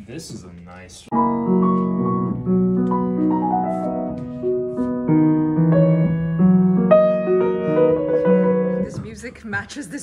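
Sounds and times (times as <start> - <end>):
grand piano playing chords: 1.1 - 9.6.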